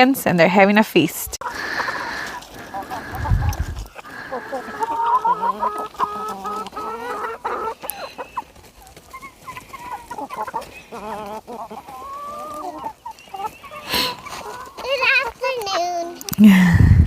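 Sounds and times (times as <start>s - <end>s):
chickens clucking: 0.0s - 16.4s.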